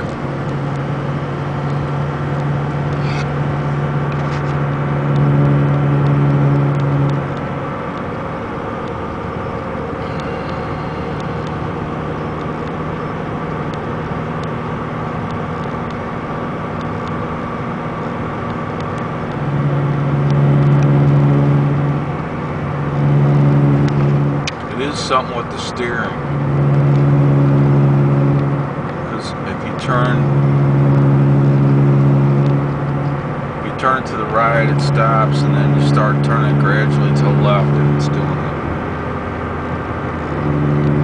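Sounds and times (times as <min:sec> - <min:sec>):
car road noise: 0:00.0 - 0:41.0
wheel bearing droning hum: 0:00.0 - 0:41.0.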